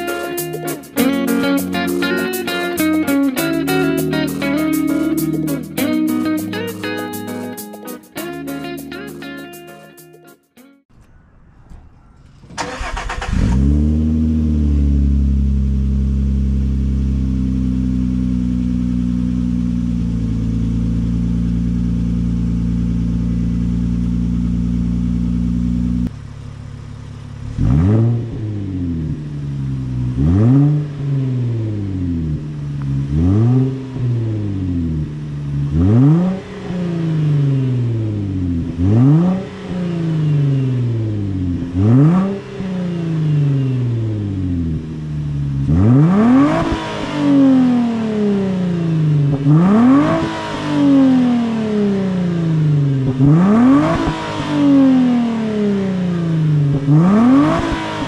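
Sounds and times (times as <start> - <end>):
car engine idling and revving: 11.0 - 58.0.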